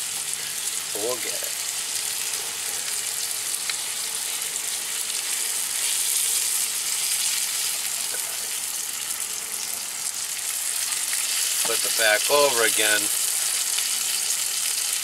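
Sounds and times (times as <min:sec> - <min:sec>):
fish sizzling in butter: 0:00.0 - 0:15.0.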